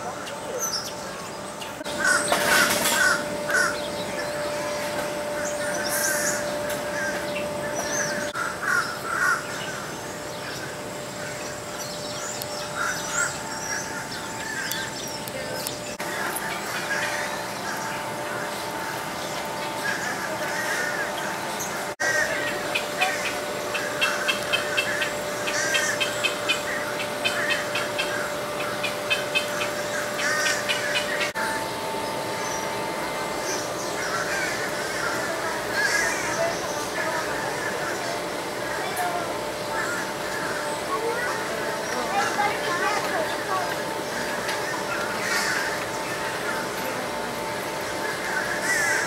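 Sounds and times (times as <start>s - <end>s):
faint steady hum: 0.0s - 49.0s
small birds chirping: 0.0s - 49.0s
harsh caw-like bird calls: 1.8s - 15.2s, 16.0s - 49.0s.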